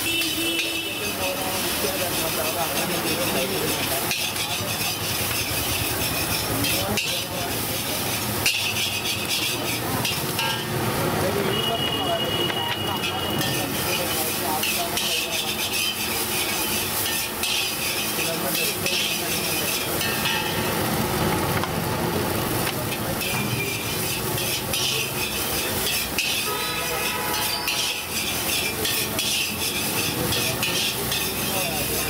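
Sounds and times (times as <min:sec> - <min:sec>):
metal spatula scraping a wok: 0:00.0 - 0:21.3, 0:22.3 - 0:32.0
rice sizzling: 0:00.0 - 0:32.0.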